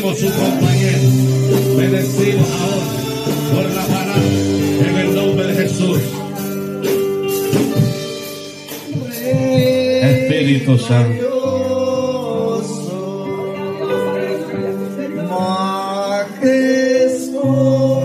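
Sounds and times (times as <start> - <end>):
worship music with singing: 0.0 - 18.0.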